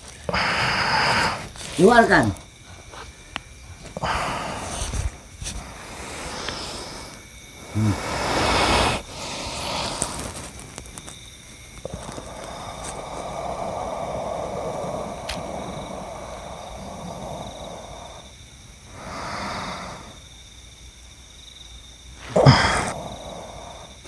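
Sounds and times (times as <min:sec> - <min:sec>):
man breathing forcefully: 0:00.3 - 0:10.5, 0:11.9 - 0:20.2, 0:22.3 - 0:24.0.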